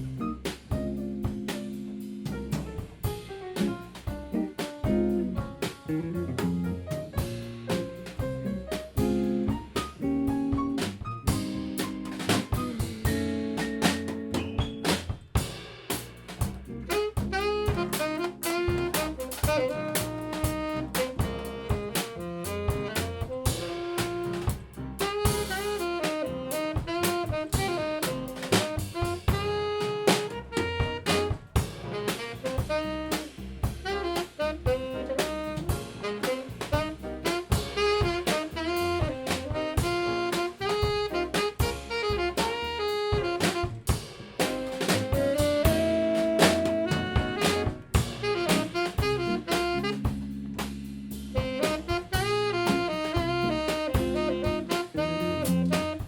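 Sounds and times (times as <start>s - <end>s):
band melody: 0.0s - 56.0s
drum kit: 0.0s - 56.0s.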